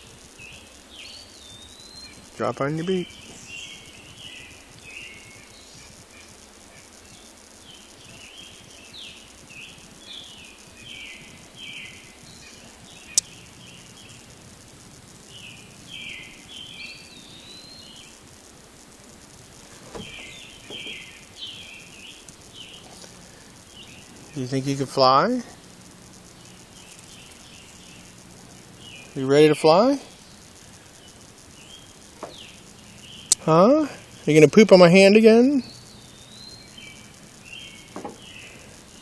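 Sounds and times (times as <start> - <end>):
bird chirping: 0.0 - 18.3, 19.1 - 39.0.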